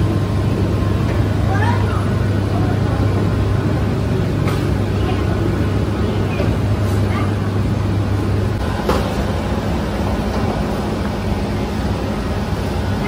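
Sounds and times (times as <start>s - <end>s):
continuous mechanical noise: 0.0s - 13.0s
low machine hum: 0.0s - 13.0s.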